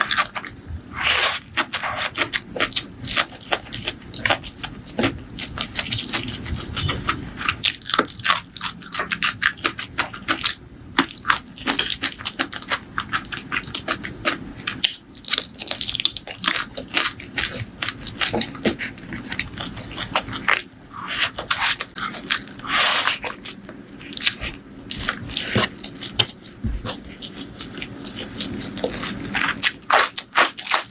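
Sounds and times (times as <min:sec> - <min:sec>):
crunchy bites and wet chewing: 0:00.0 - 0:30.9.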